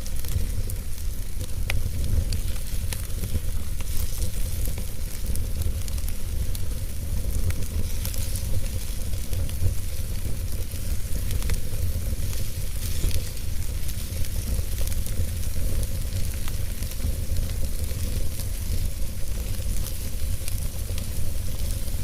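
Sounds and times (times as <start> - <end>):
fire crackles and pops: 0.0 - 22.0
wood fire hissing: 0.0 - 22.0.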